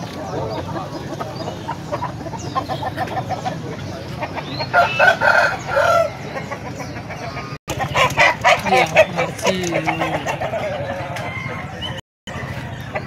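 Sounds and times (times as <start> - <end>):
rooster clucking: 0.0 - 12.0.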